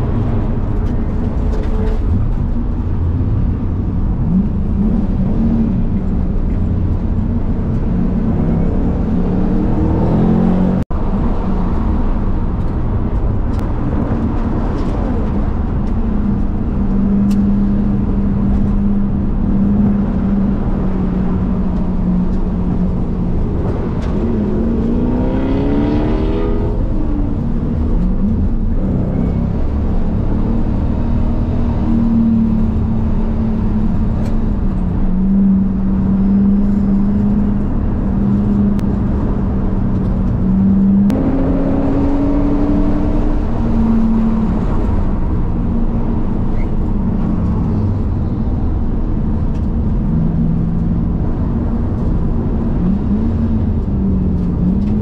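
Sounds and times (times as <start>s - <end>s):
car engine accelerating: 0.0s - 55.0s
wind noise: 0.0s - 55.0s.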